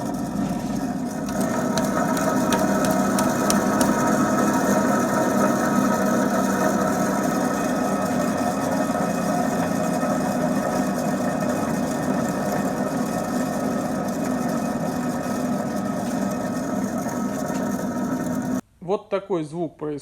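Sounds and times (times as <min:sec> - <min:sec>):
wheel bearing humming: 0:00.0 - 0:18.6.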